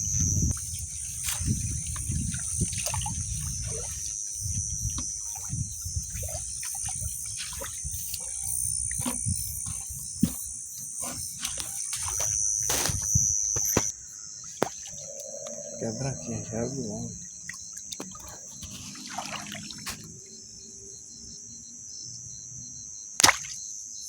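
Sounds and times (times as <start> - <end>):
water sloshing and splashing: 0.0 - 20.4, 23.2 - 23.6
high-pitched insect chorus: 0.0 - 24.0.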